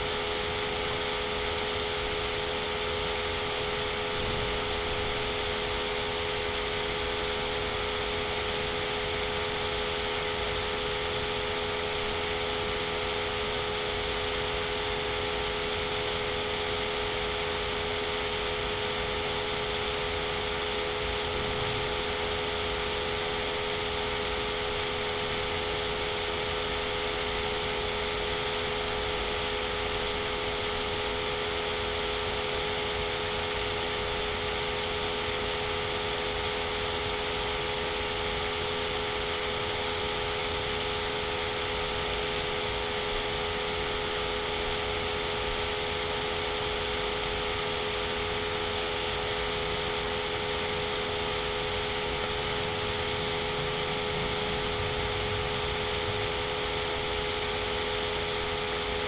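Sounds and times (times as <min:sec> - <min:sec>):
background hum and hiss: 0:00.0 - 0:59.0.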